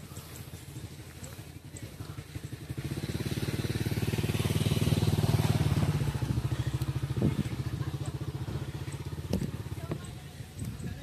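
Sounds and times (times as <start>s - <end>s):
small engine putter passing: 0.0s - 11.0s.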